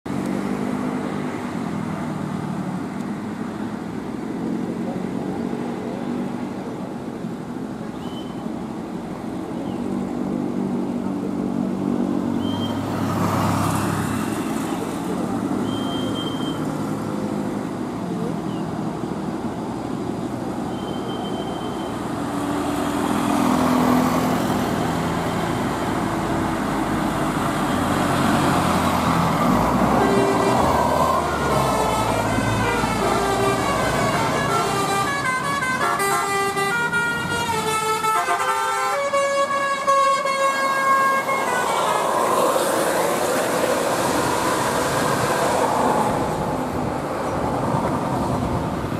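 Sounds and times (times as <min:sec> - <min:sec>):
traffic engines passing: 0:00.1 - 0:48.9.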